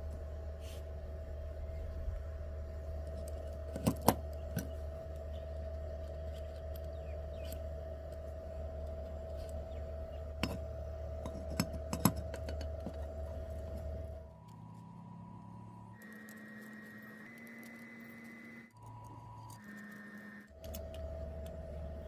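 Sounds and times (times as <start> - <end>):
steady electrical hum: 0.0 - 22.0
small parts clicking and tapping: 3.0 - 14.9, 15.9 - 22.0.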